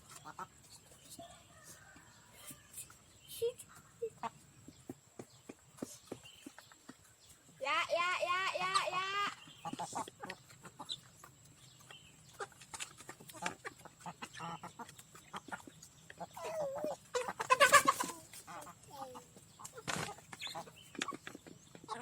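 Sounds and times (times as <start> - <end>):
hens clucking: 0.0 - 22.0.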